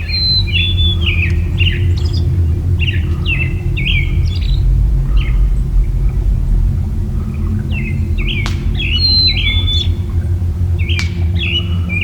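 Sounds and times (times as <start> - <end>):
high chirping bird calls: 0.0 - 5.9, 7.6 - 11.7
steady low rumble: 0.0 - 12.0.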